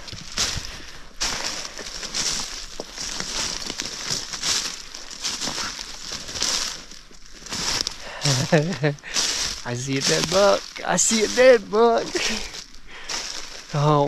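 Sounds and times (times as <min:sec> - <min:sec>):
footsteps crunching dry leaves: 0:00.0 - 0:14.0.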